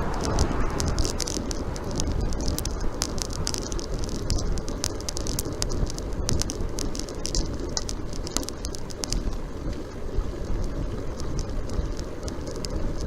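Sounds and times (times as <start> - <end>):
bicycle road noise: 0.0 - 13.0
small sharp clicks and rattles: 0.0 - 13.0
wind rushing over microphone: 0.0 - 13.0.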